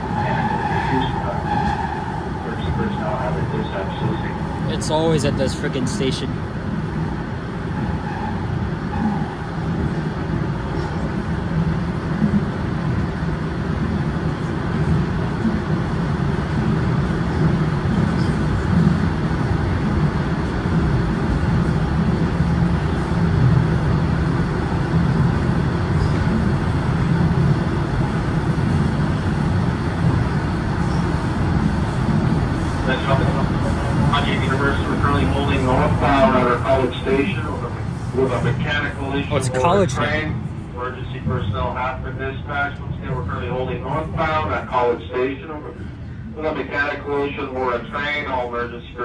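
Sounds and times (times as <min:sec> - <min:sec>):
subway train rumbling: 0:00.0 - 0:49.0.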